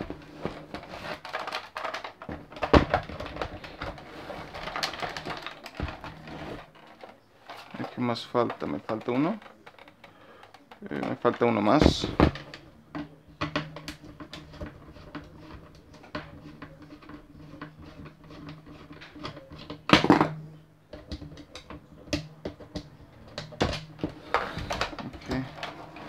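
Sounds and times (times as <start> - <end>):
loud plastic clatter: 0.0 - 17.2, 17.9 - 26.0.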